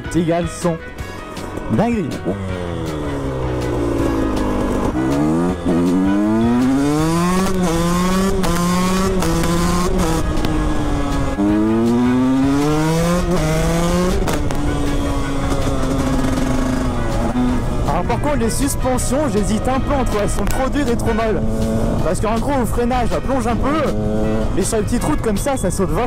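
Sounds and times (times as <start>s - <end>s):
two-stroke engine accelerating: 1.5s - 26.0s.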